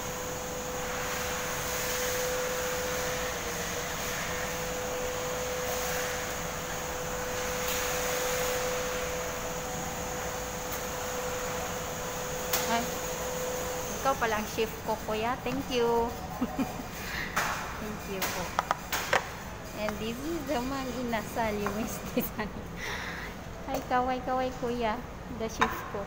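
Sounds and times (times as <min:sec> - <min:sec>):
ventilation hum and hiss: 0:00.0 - 0:26.0.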